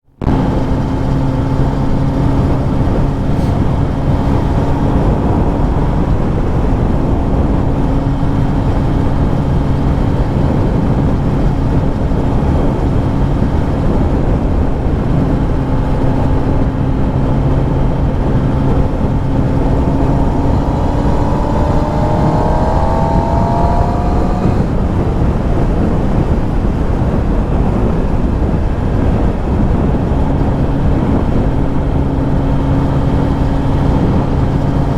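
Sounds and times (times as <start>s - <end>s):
wind and road noise: 0.0s - 34.9s
motorcycle engine running: 0.2s - 34.9s.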